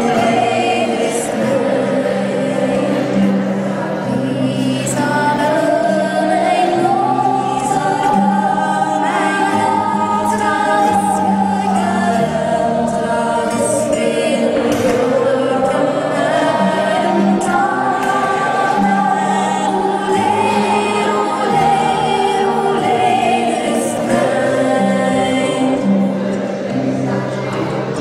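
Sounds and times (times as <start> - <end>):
sustained backing chords: 0.0 - 28.0.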